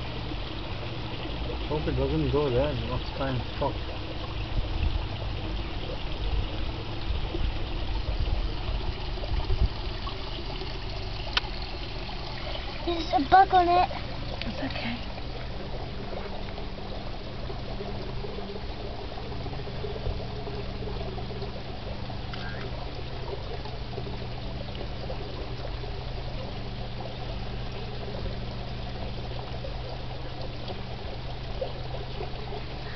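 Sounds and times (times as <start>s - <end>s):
low hum: 0.0s - 32.9s
outdoor background noise: 0.0s - 32.9s.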